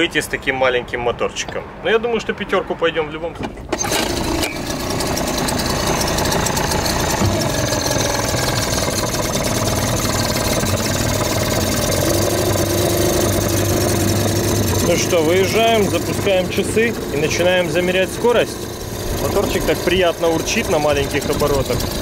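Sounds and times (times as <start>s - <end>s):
outboard motor idling: 3.8s - 22.0s.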